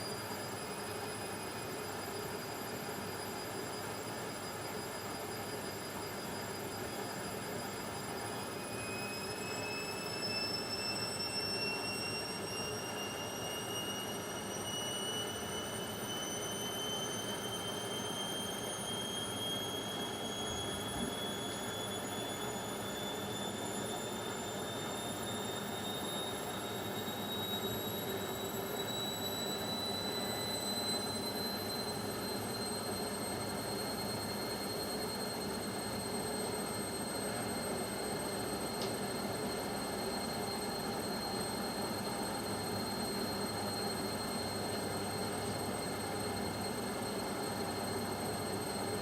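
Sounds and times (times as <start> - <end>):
high motor whine: 0.0 - 49.0.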